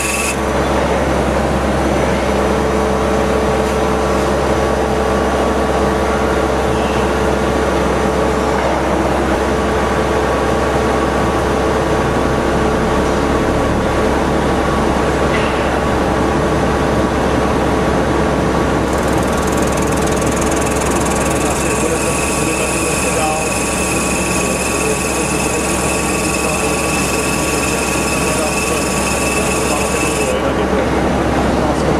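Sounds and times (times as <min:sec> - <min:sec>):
machine hum and whir: 0:00.0 - 0:31.9.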